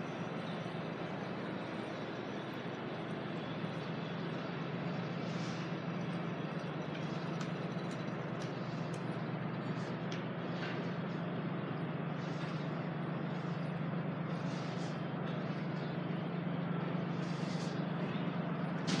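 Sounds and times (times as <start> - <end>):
vehicle traffic drone and hiss: 0.0 - 19.0.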